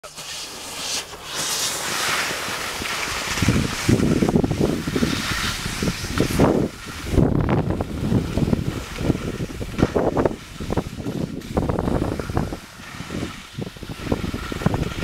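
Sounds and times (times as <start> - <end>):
skis sliding on snow: 0.0 - 15.0
wind rushing over microphone: 2.7 - 15.0.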